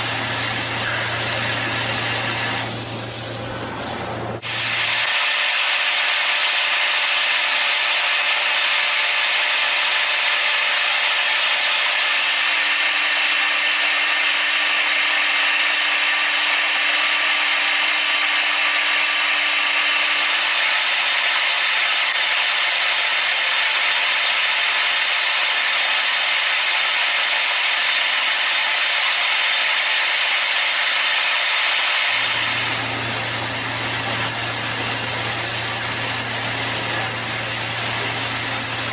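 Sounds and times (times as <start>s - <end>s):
cnc machine hissing and grinding: 0.0s - 38.9s.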